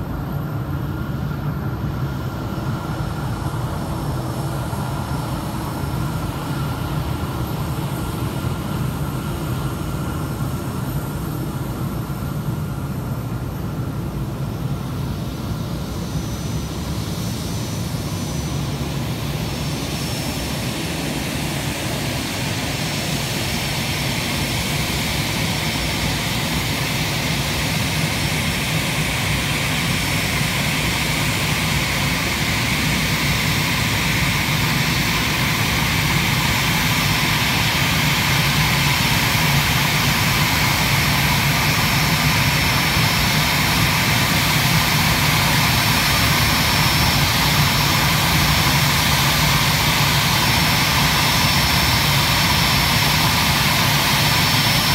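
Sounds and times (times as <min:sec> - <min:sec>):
jet engines rumbling with high whine: 0:00.0 - 0:54.9.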